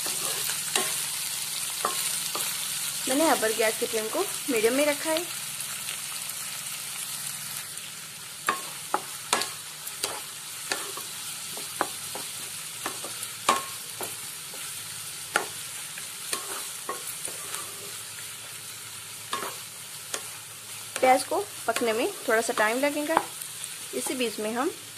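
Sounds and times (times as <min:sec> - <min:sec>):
onions sizzling in oil: 0:00.0 - 0:24.9.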